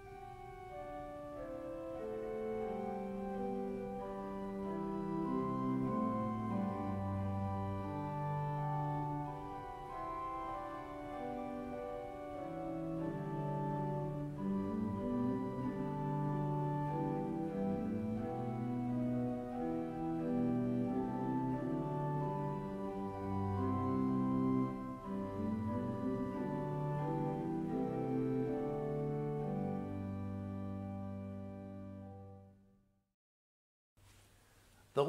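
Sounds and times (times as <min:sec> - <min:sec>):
organ playing slow chords: 0:00.0 - 0:32.6.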